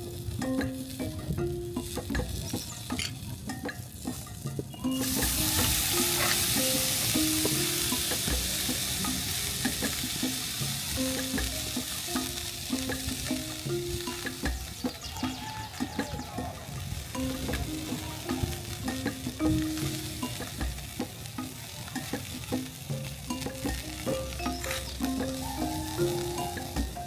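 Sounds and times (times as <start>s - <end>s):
food sizzling: 0.0s - 27.0s
soft background music: 0.0s - 27.0s.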